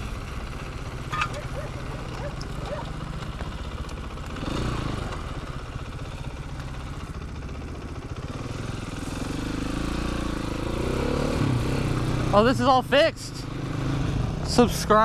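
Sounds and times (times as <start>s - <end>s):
dirt bike engine revving: 0.0s - 7.2s, 8.2s - 15.0s.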